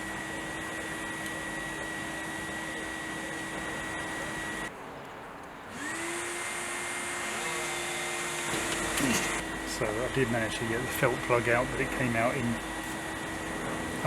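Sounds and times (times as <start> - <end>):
small electric motor humming: 0.0 - 4.7, 5.7 - 14.0.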